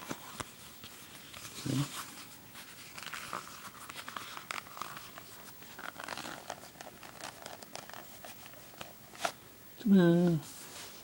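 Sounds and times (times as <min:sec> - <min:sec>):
paper pages rustling: 0:00.0 - 0:09.4.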